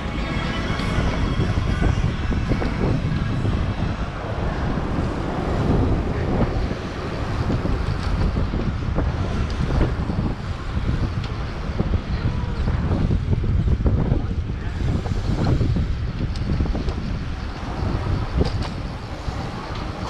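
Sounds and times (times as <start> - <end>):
light street noise: 0.0 - 20.0
wind buffeting microphone: 0.0 - 20.0.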